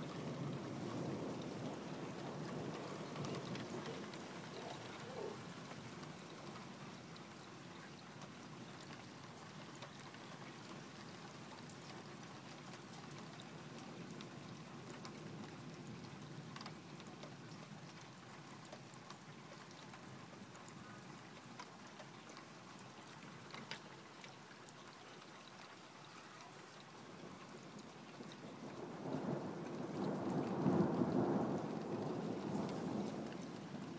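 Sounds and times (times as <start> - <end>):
raindrops ticking close by: 0.0 - 33.9
steady rain falling: 0.0 - 33.9.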